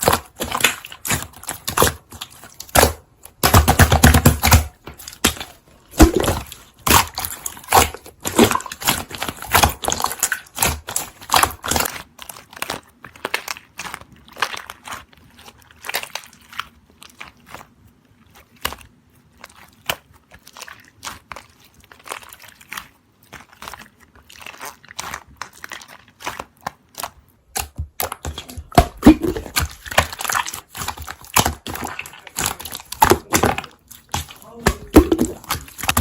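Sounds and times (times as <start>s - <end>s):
slime crackling and popping: 0.0s - 36.0s.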